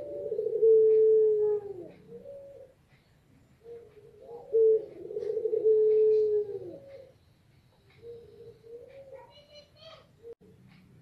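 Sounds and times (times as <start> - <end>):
dove cooing: 0.0 - 10.9.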